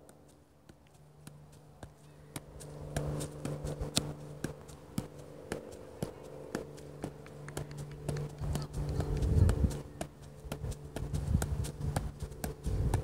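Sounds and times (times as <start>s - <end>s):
foot tapping soccer ball: 0.0s - 13.0s
steady low hum: 0.0s - 13.0s.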